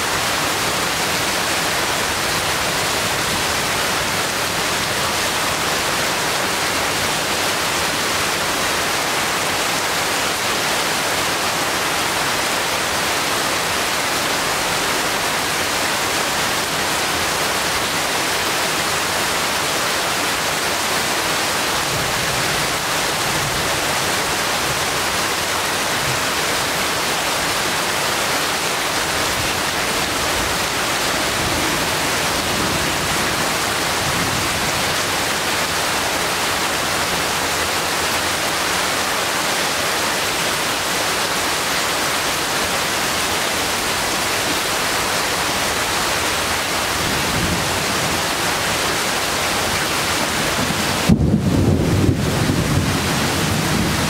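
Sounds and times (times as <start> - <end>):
rain falling on foliage: 0.0 - 54.0.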